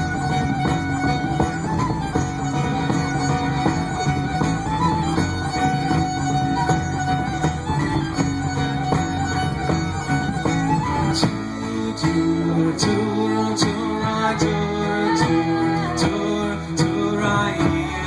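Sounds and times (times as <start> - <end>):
fiddle melody: 0.0 - 18.0
guitar: 0.0 - 18.0
percussive beat: 0.0 - 18.0.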